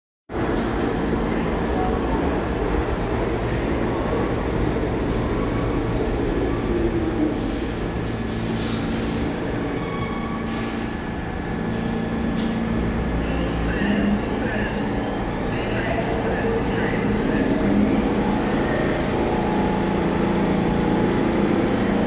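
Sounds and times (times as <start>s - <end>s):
subway car equipment humming: 0.4s - 22.0s.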